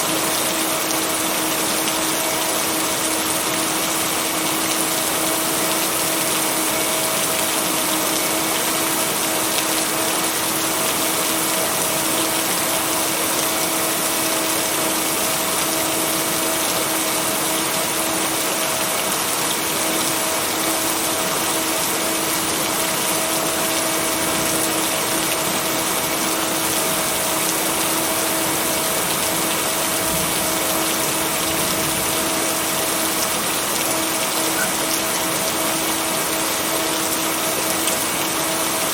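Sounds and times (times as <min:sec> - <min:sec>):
dense rain: 0:00.0 - 0:38.9.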